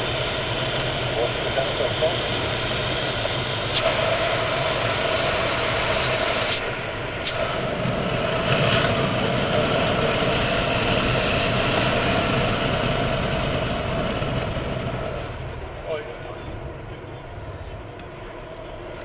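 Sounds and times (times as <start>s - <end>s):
car cabin engine and road noise: 0.0s - 19.0s.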